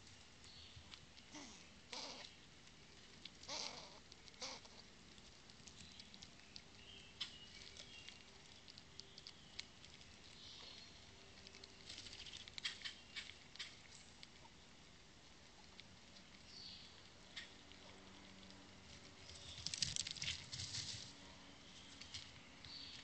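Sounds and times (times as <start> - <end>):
squirrels eating nuts: 0.0 - 23.0.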